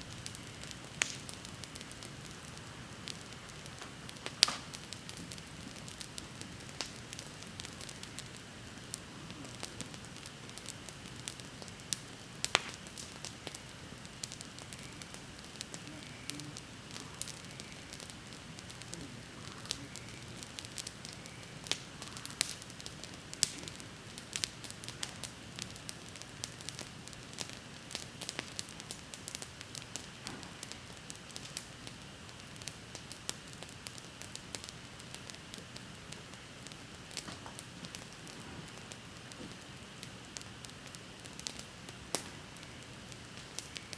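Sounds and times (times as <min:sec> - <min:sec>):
wood bonfire crackling and popping: 0:00.0 - 0:43.9.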